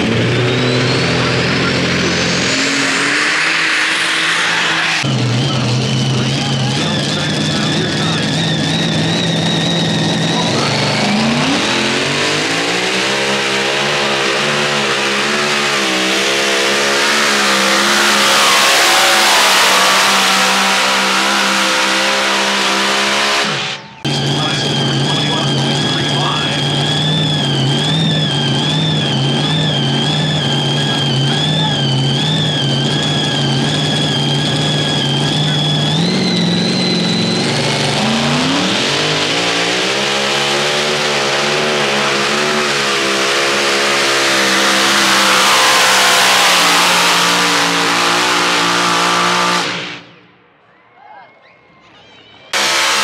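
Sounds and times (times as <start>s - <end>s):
tractor engine revving with whine: 0.0s - 50.5s, 52.5s - 53.0s.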